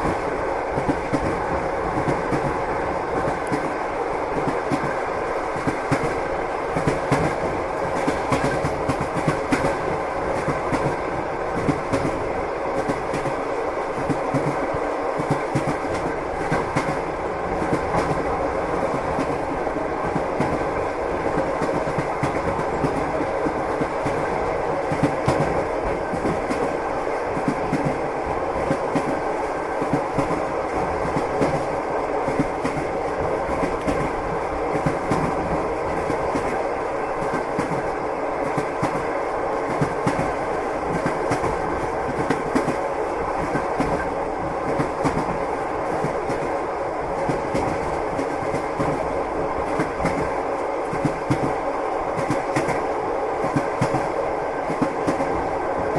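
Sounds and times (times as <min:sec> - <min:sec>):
train rumble: 0:00.0 - 0:55.9.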